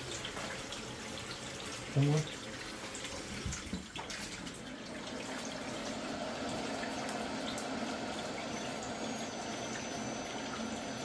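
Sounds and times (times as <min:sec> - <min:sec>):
water running: 0:00.0 - 0:11.0.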